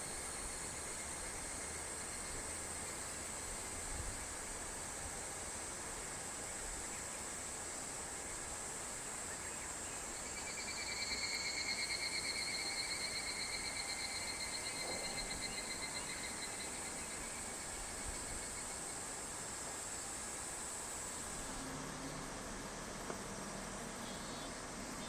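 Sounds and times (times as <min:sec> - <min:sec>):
cicada pulsing trill: 0:00.0 - 0:25.0
insects chorus: 0:00.0 - 0:25.0.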